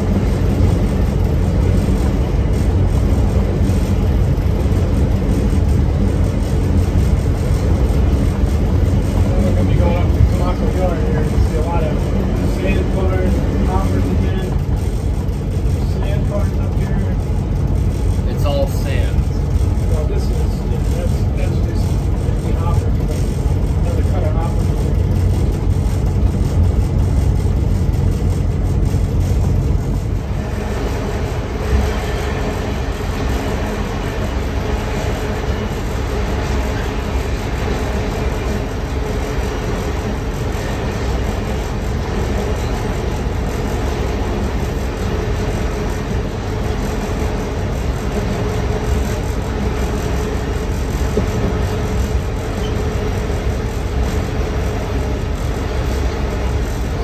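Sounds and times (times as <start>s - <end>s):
harsh rushing noise: 0.0s - 57.0s
low engine rumble: 0.0s - 57.0s
rail and wheel noise: 0.0s - 57.0s.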